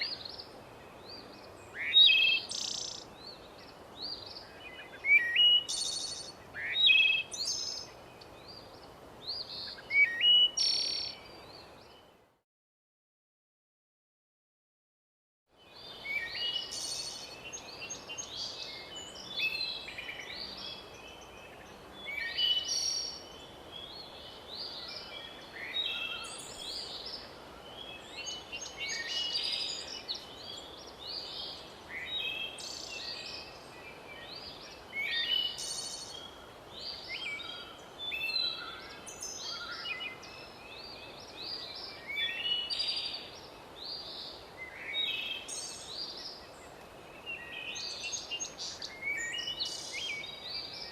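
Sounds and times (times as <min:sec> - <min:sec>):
songbirds singing: 0:00.0 - 0:12.3, 0:15.5 - 0:50.9
faint background hiss: 0:00.0 - 0:12.4, 0:15.5 - 0:50.9.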